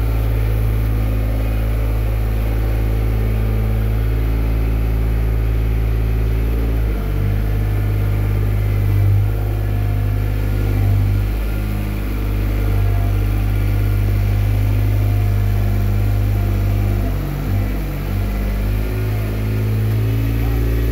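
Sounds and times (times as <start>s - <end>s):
tractor engine running under load: 0.0s - 20.9s.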